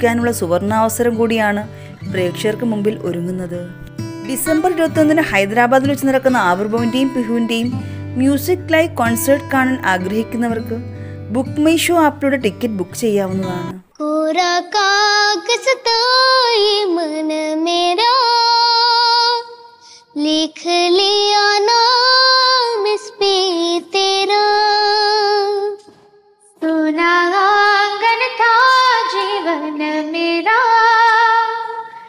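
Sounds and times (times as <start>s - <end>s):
girl singing: 0.0s - 12.1s, 13.4s - 32.0s.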